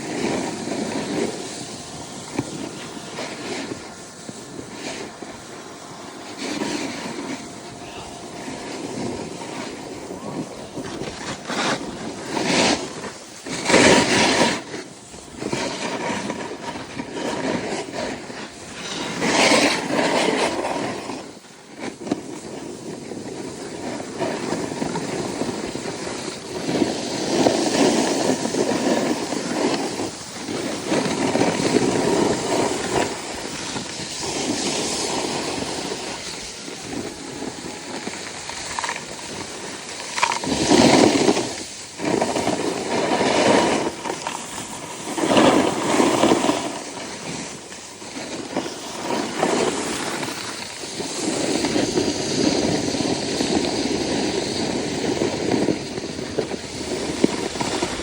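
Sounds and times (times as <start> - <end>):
snowboard scraping snow: 0.0 - 58.0.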